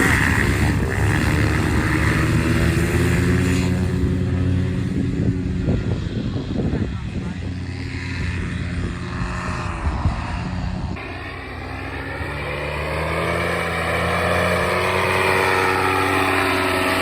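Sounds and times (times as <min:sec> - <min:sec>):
two-stroke paramotor engine running: 0:00.0 - 0:17.0.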